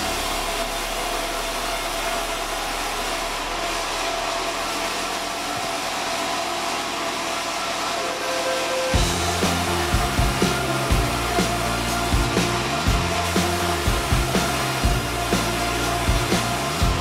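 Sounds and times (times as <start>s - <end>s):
band saw running: 0.0s - 17.0s.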